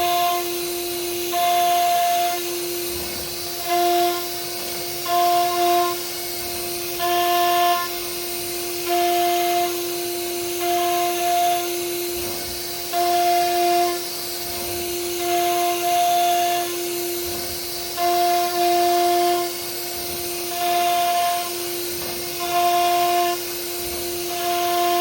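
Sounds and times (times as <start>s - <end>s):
router spindle whining carving wood: 0.0s - 25.0s.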